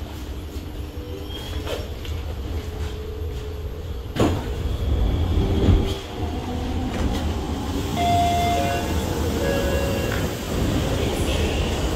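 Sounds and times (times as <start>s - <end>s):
metro train rumble: 0.0s - 11.9s.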